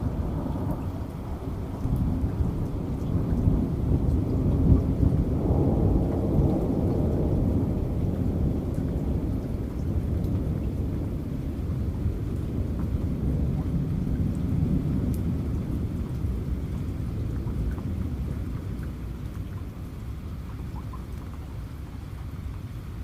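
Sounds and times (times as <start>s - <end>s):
rolling thunder: 0.0s - 18.8s
heavy rain: 0.0s - 23.0s.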